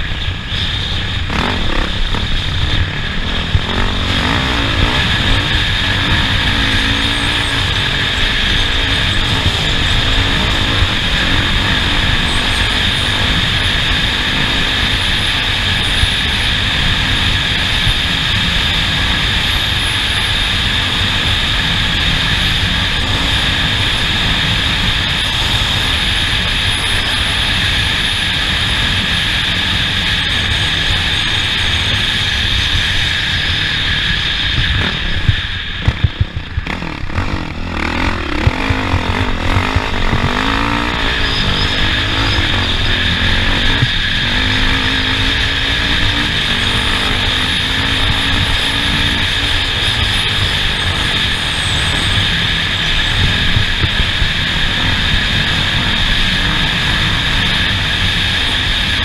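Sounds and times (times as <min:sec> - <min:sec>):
off-road vehicle engine: 0:00.0 - 0:59.0.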